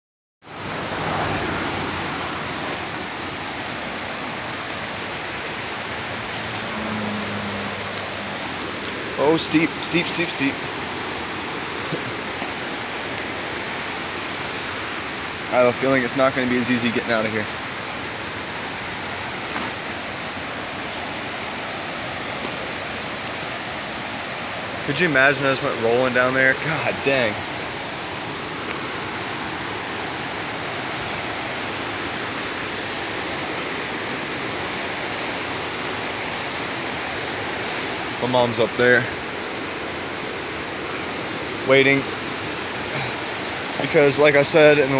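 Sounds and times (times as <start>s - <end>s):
running water rushing: 0.4s - 44.9s.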